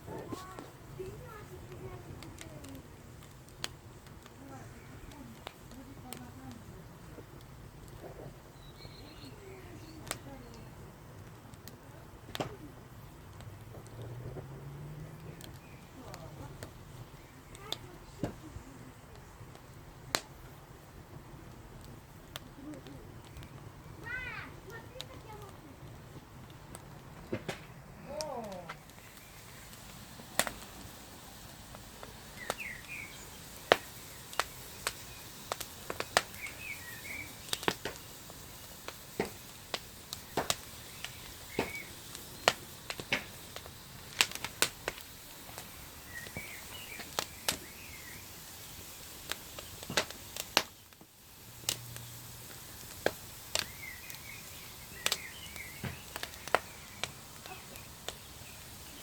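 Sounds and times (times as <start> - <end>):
small birds chirping: 0.0 - 13.4, 14.0 - 20.9, 21.5 - 59.0
wood fire crackling and popping: 0.0 - 59.0.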